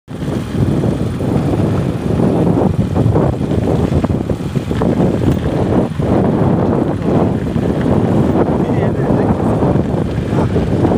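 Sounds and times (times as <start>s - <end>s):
wind buffeting microphone: 0.1s - 10.9s.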